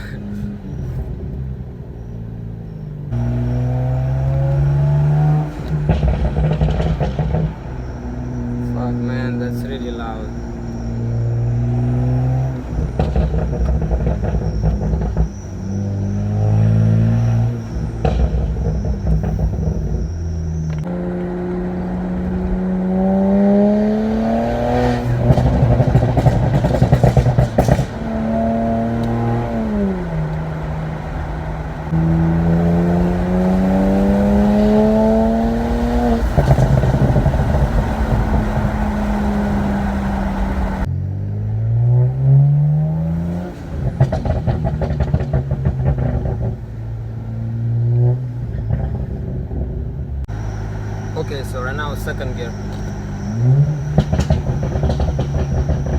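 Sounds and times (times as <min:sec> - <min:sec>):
car engine accelerating: 0:00.0 - 0:55.9
exhaust crackles and pops: 0:04.2 - 0:40.9, 0:43.0 - 0:55.9.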